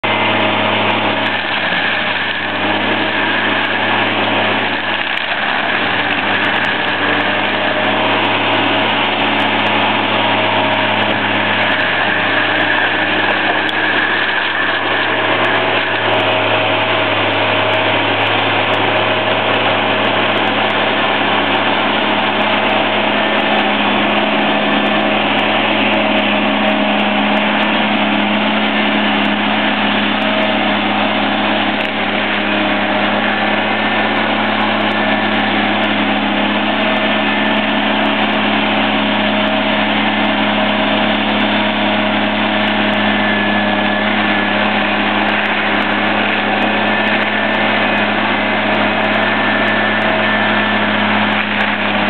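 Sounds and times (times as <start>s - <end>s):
diesel engine running under load: 0.0s - 52.0s
high whine: 0.0s - 52.0s
mulching drum grinding brush: 0.0s - 52.0s.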